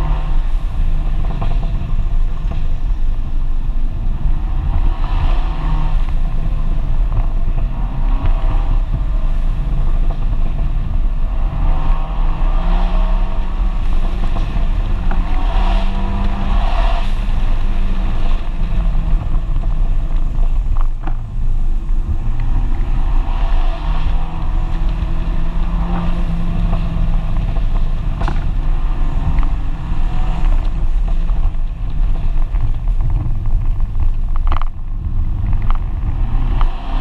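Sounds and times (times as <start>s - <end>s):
car engine running at speed: 0.0s - 37.0s
road noise: 0.0s - 37.0s
wind noise: 0.0s - 37.0s.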